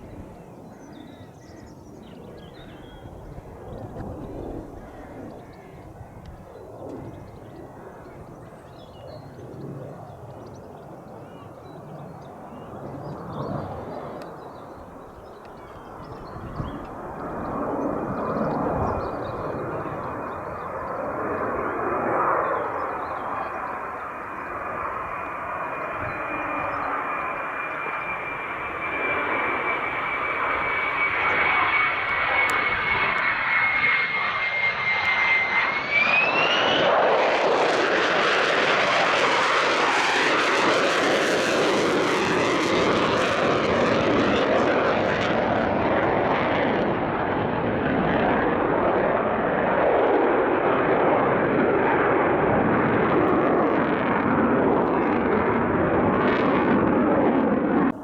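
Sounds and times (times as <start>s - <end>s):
fighter jet engine whine and roar: 0.0s - 58.0s.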